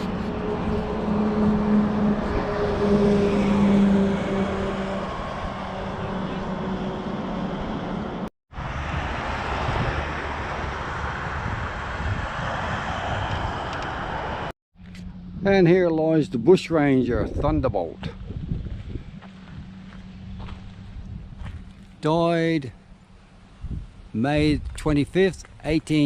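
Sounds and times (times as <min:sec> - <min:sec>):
vehicle engine droning: 0:00.0 - 0:25.9
traffic noise: 0:00.0 - 0:26.0.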